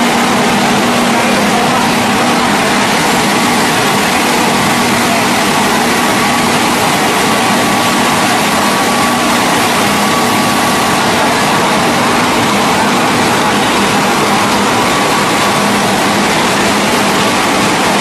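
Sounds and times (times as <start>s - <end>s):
veneer peeling lathe running: 0.0s - 18.0s.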